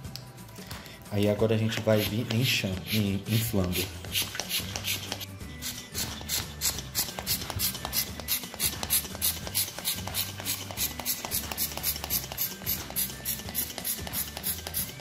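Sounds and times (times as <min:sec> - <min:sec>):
hand pump puffing air: 0:01.7 - 0:15.0.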